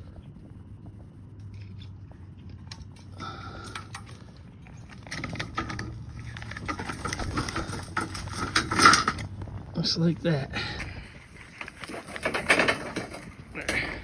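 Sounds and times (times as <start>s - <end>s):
wire tie clicking and scraping: 0.0s - 9.8s, 10.7s - 14.0s
steady low hum: 0.0s - 14.0s.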